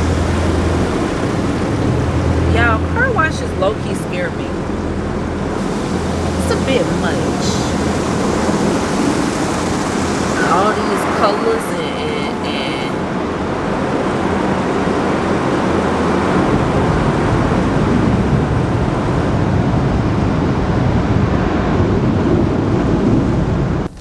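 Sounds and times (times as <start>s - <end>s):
car wash rushing noise: 0.0s - 24.0s.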